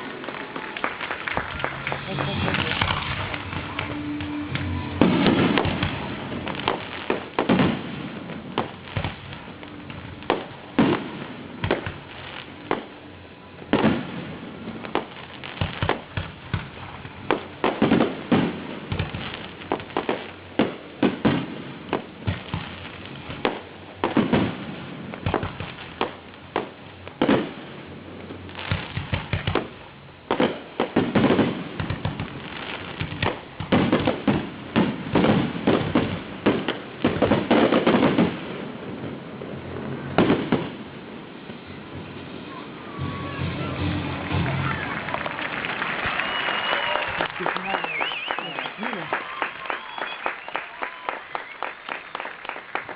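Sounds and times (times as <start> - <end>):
fireworks bangs and cracks: 0.0 - 52.9.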